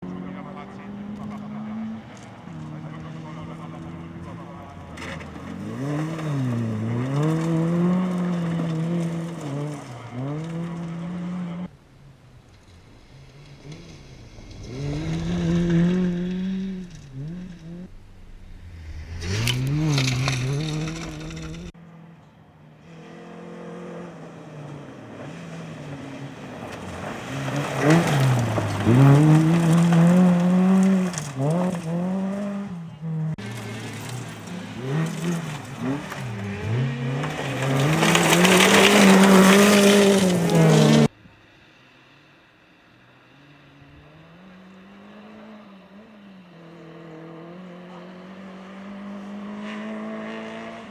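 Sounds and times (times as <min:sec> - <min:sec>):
rally car engine revving: 0:00.0 - 0:11.7, 0:13.3 - 0:21.8, 0:22.8 - 0:41.2, 0:43.9 - 0:50.9.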